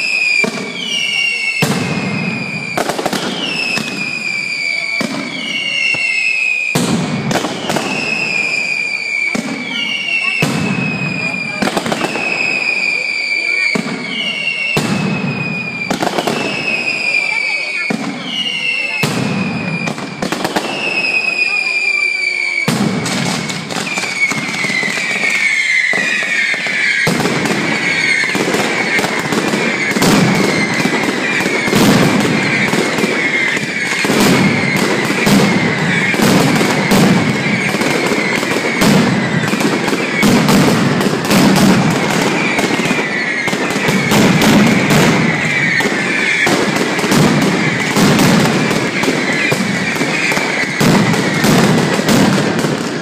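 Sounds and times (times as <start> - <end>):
firecrackers banging: 0.0 - 53.0
whistling fireworks: 0.0 - 53.0.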